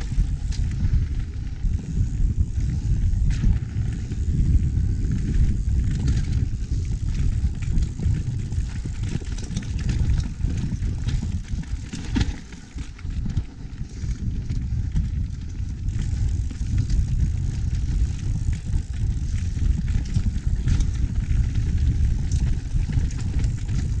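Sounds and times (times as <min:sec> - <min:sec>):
bike rattling and knocking: 0:00.0 - 0:24.0
wind rumbling on microphone: 0:00.0 - 0:24.0.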